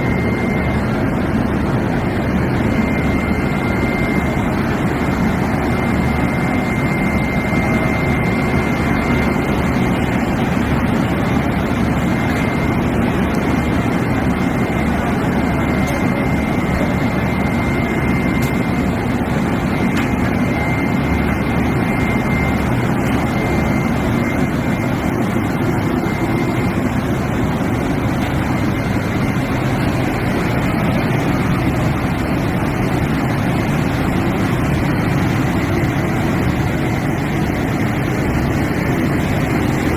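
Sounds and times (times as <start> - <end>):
thin high whine: 0.0 - 39.9.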